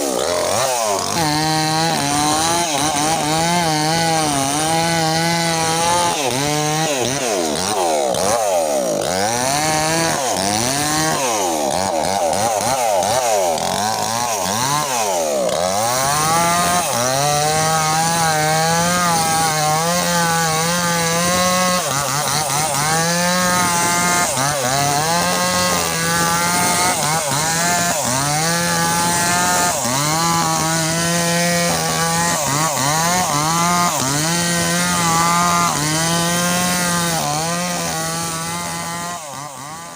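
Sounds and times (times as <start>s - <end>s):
chainsaw cutting trunk: 0.0s - 39.9s.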